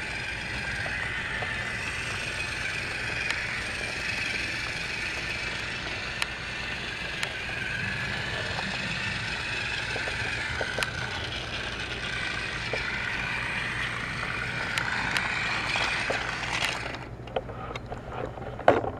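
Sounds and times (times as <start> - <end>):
toy train motor whining: 0.0 - 17.8.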